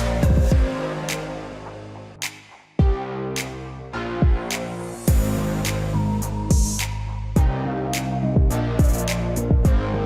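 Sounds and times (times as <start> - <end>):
electronic music with kick drums: 0.0 - 10.0.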